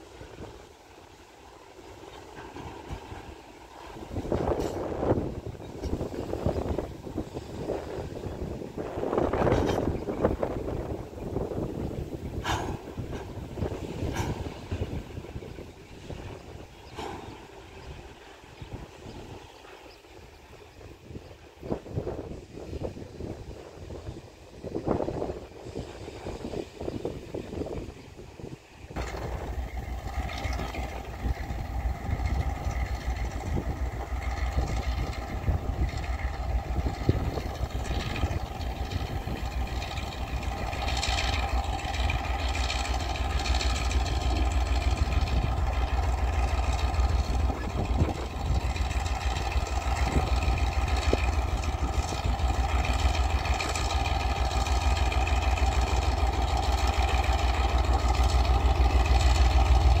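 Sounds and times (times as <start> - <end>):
diesel locomotive engine running: 0.0 - 60.0.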